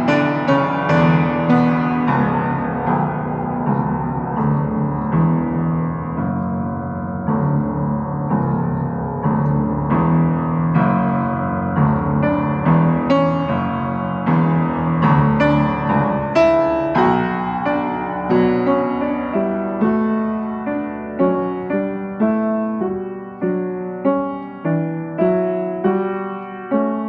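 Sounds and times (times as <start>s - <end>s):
solo piano: 0.0s - 27.0s.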